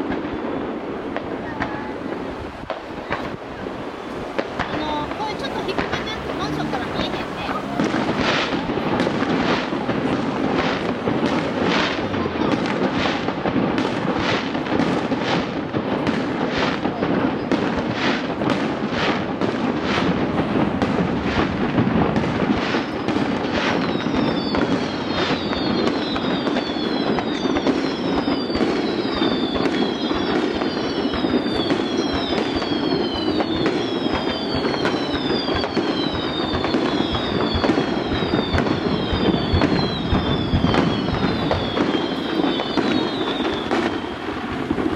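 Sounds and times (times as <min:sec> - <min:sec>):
falling firework whistles: 0:00.0 - 0:44.9
fireworks bangs: 0:00.0 - 0:44.9.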